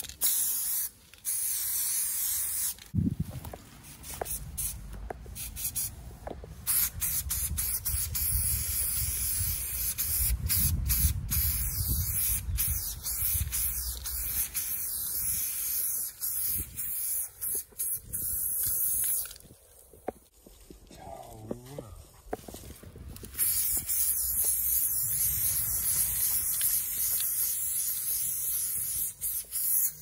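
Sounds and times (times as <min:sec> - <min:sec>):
spray paint can hissing: 0:00.0 - 0:03.0, 0:03.8 - 0:06.0, 0:06.6 - 0:19.5, 0:23.3 - 0:30.0.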